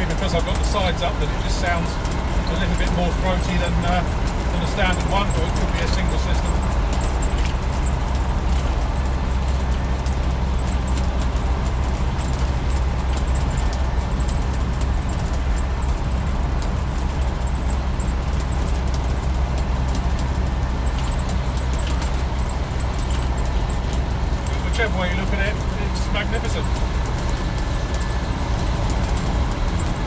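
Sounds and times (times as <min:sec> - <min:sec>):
diesel engine rumbling: 0:00.0 - 0:30.0
road noise: 0:00.0 - 0:30.0.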